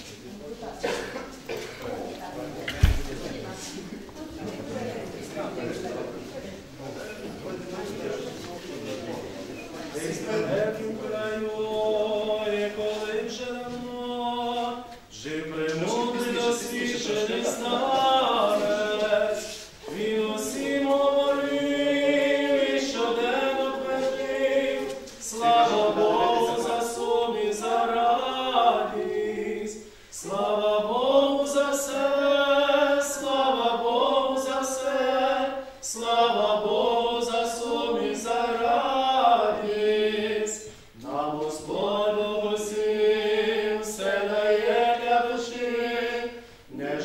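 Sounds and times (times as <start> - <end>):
group singing a hymn: 0.8 - 47.0.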